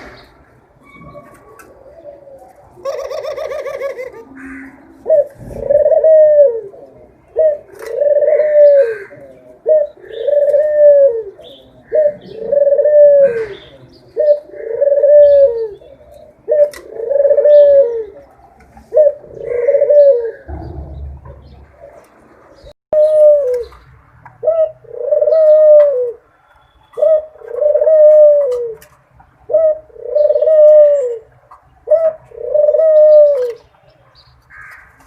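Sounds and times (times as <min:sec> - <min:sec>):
dove cooing: 0:00.9 - 0:22.1, 0:23.0 - 0:23.8, 0:24.4 - 0:26.2, 0:27.0 - 0:28.9, 0:29.5 - 0:33.6.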